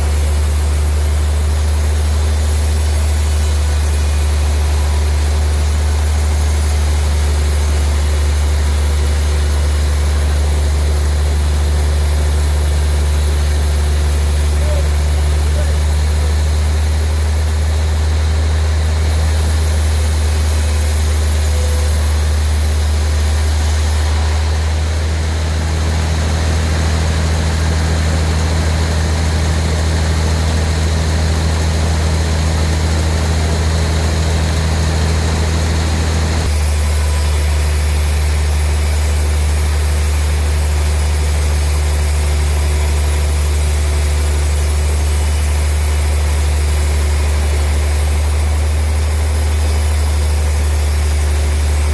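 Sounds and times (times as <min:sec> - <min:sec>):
sawmill machinery low hum: 0:00.0 - 0:51.9.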